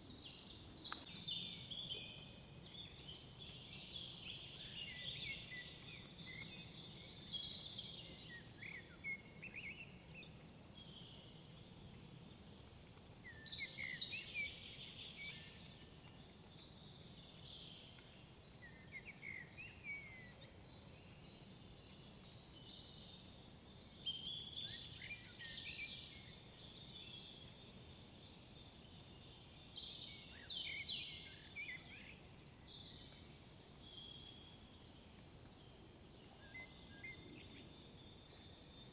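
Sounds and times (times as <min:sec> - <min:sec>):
songbirds singing with trills: 0:00.0 - 0:38.9.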